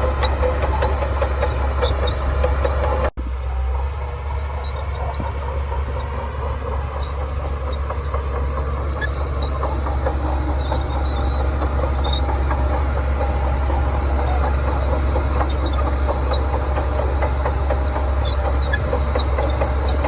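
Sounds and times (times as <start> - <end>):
bulldozer diesel engine rumble: 0.0 - 20.0
steel tracks clanking: 0.0 - 20.0.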